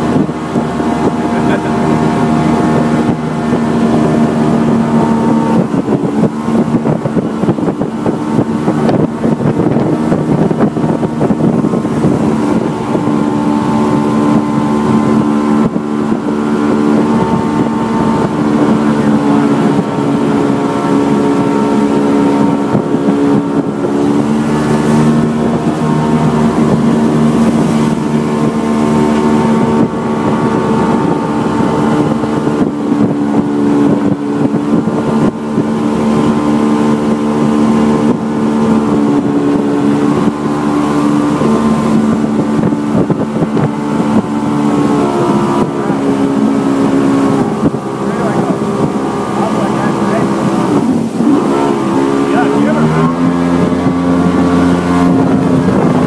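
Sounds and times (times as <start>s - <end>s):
boat motor running: 0.0s - 56.0s
wind on microphone: 0.0s - 56.0s.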